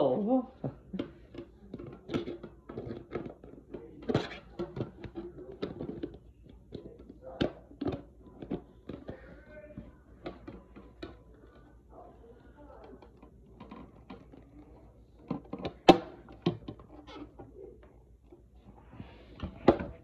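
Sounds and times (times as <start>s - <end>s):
faint voices: 0.0s - 20.0s.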